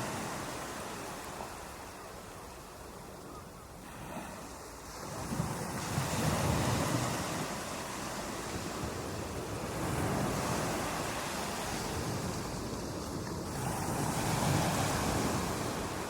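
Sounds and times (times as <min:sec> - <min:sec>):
waves breaking on a beach: 0:00.0 - 0:16.0.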